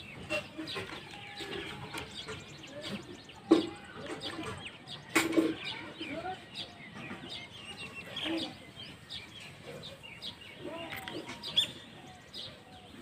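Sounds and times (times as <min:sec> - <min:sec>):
chickens clucking: 0:00.0 - 0:13.0
small birds chirping: 0:00.0 - 0:13.0.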